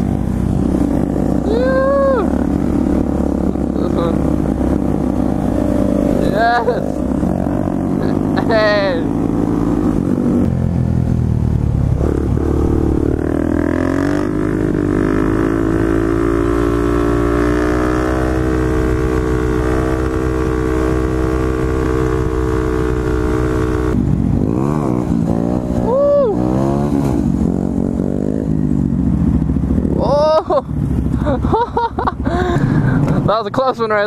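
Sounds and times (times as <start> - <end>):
motorcycle engine revving: 0.0 - 33.2.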